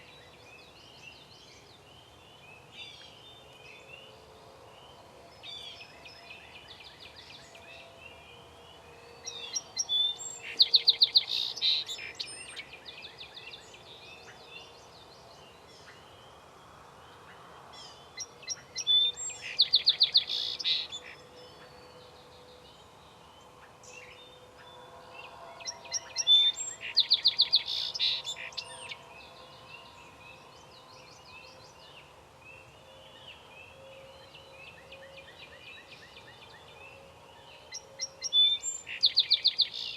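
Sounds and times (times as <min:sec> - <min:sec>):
songbird singing with trill: 0:00.0 - 0:39.9.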